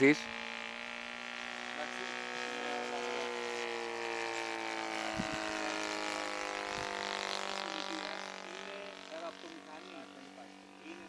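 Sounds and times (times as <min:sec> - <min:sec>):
model airplane engine droning: 0:00.0 - 0:11.0.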